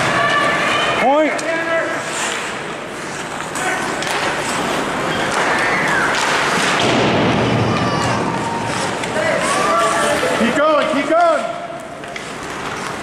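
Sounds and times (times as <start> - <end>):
hockey sticks and puck clacking: 0.0 - 7.0, 7.7 - 13.0
spectators' voices: 0.0 - 13.0
skate blades scraping ice: 0.1 - 6.8, 8.3 - 13.0.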